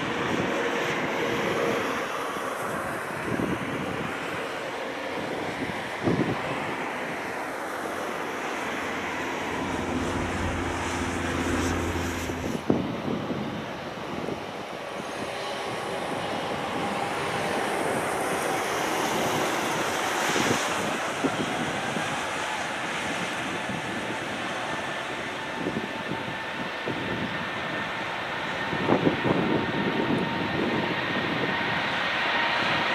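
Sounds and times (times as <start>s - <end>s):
jet engines roaring: 0.0s - 32.9s
wind buffeting microphone: 0.0s - 32.9s.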